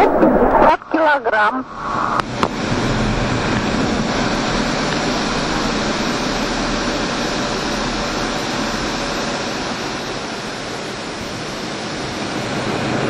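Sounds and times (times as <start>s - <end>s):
fighter jet roaring in flight: 1.6s - 13.0s.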